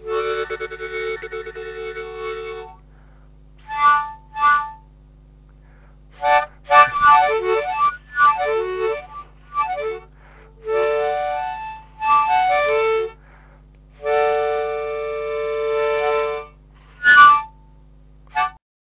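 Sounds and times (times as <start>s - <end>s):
harmonica playing chords: 0.0s - 5.0s, 5.7s - 17.7s, 18.3s - 18.6s.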